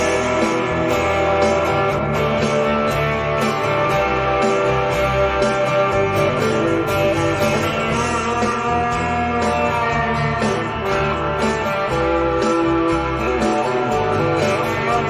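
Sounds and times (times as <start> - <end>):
guitar music: 0.0 - 15.0
steady bass line: 0.0 - 15.0.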